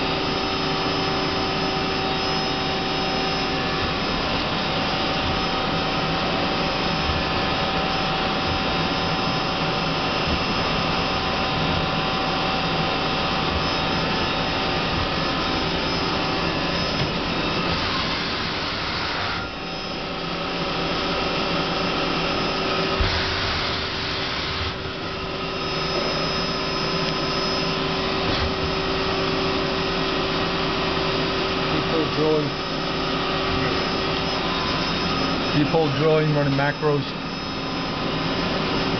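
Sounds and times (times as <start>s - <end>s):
machine whir with tones: 0.0s - 38.9s.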